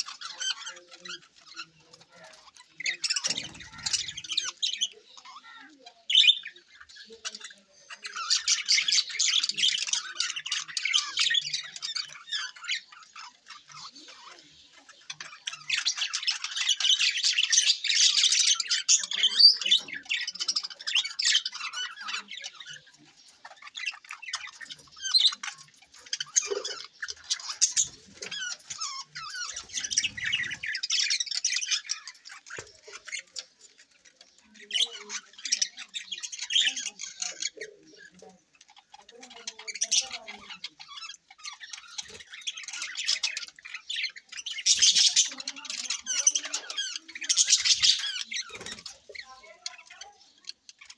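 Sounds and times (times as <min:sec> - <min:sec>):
budgerigars chattering and squawking: 0:00.0 - 0:50.9.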